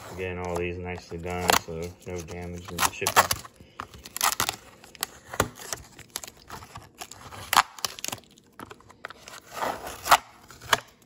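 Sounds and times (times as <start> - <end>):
plastic and cardboard crinkling: 0.0 - 11.0
sharp plastic crackles: 0.4 - 11.0.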